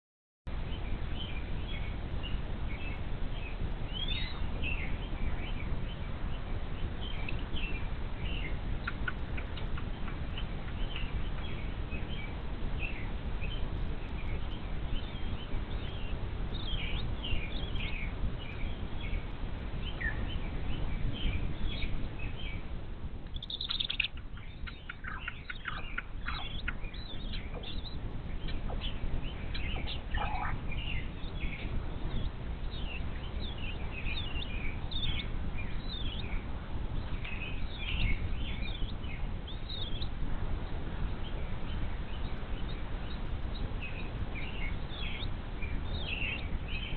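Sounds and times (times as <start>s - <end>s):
birds chirping: 0.5s - 46.9s
steady low rumble: 0.5s - 46.9s.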